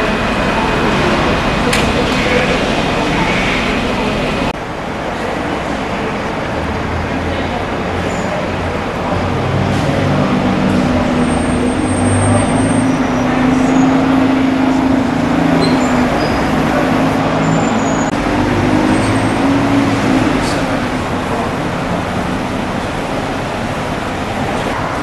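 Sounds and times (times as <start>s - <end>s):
road and tyre noise: 0.0s - 25.0s
vehicle engine running: 0.0s - 25.0s.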